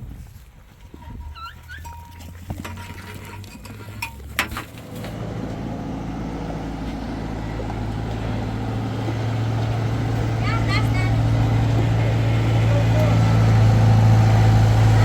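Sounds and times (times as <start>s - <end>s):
engine running with low hum: 1.6s - 15.0s.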